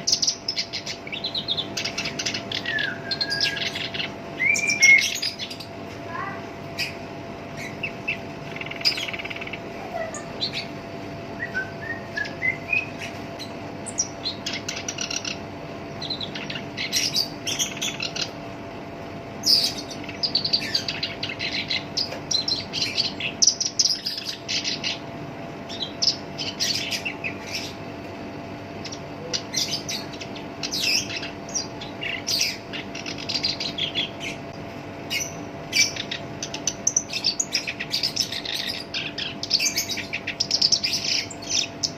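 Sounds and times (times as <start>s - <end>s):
warbler singing: 0.0s - 41.9s.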